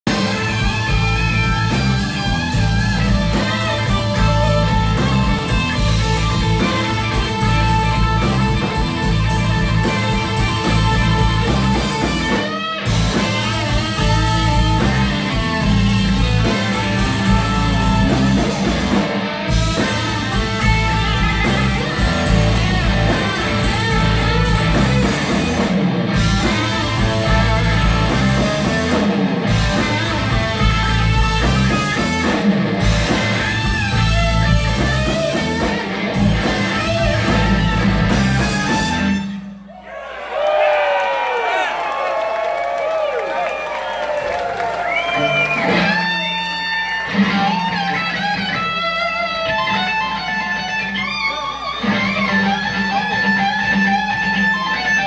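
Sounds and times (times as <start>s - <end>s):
electric guitar: 0.0s - 39.6s, 42.6s - 55.0s
live rock band: 0.0s - 39.7s, 40.4s - 55.0s.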